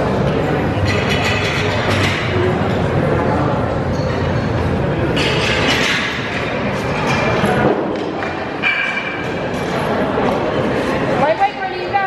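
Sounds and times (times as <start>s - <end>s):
din of overlapping voices: 0.0s - 12.0s.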